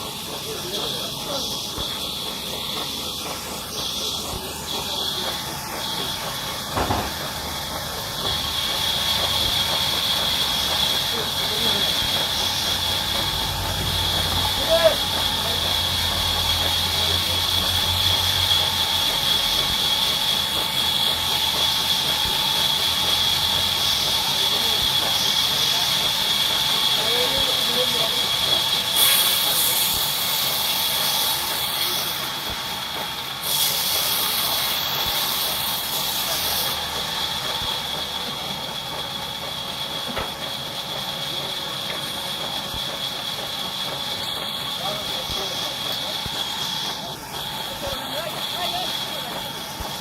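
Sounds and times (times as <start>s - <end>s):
saw machine whining: 0.0s - 50.0s.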